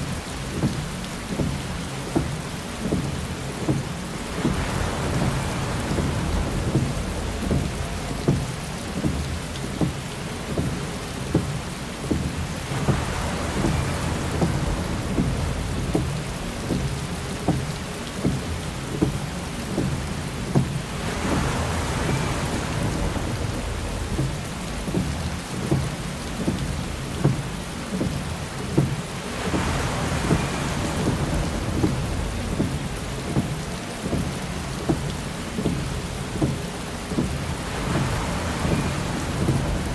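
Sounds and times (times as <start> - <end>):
heavy rain on car: 0.0 - 39.9
windshield wiper sweeping: 0.0 - 39.9.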